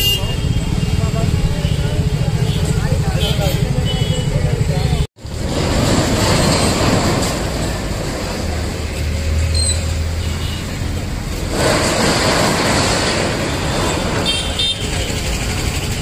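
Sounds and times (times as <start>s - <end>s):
motor vehicle engines: 0.0s - 16.0s.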